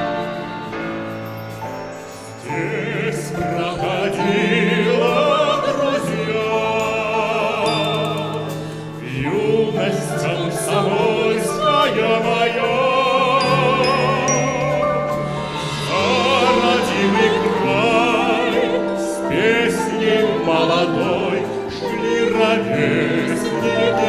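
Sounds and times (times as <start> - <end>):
classical singing with vibrato: 0.0 - 24.0
instrumental accompaniment: 0.0 - 24.0.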